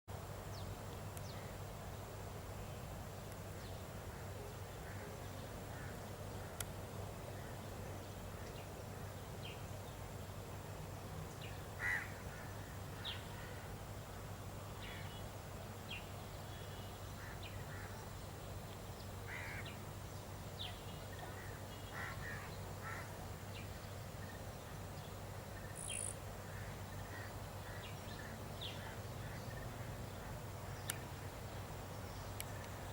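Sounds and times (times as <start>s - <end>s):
low outdoor hum: 0.1s - 32.9s.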